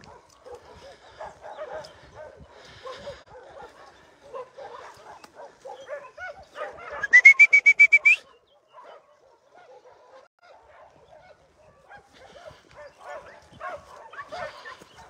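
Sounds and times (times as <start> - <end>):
distant dogs barking: 0.0 - 15.0.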